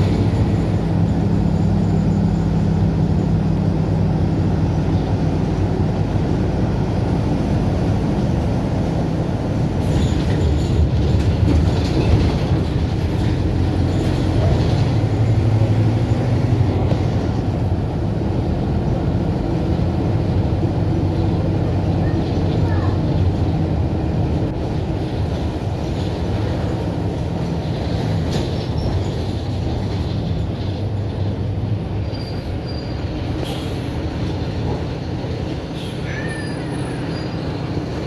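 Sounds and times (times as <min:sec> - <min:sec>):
bus diesel engine running: 0:00.0 - 0:38.0.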